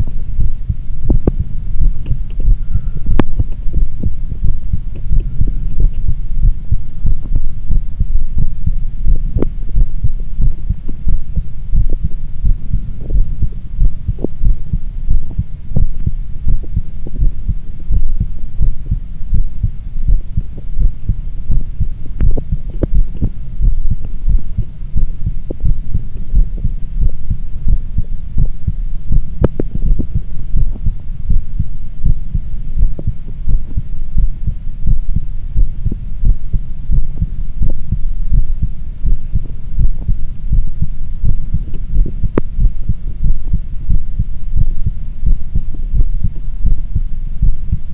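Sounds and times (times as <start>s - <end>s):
heartbeat: 0.0s - 47.9s.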